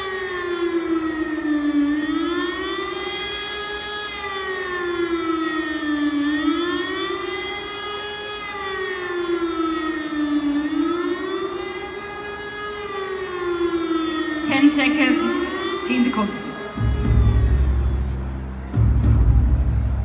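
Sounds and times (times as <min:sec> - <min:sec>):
siren wailing: 0:00.0 - 0:18.4.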